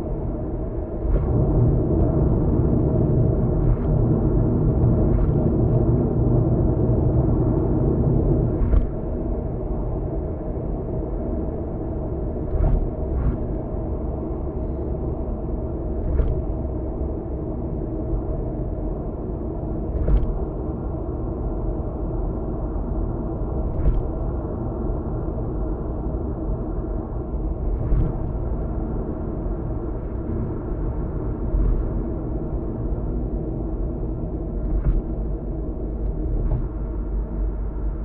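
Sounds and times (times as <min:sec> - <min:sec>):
car road noise rumble: 0:00.0 - 0:38.0.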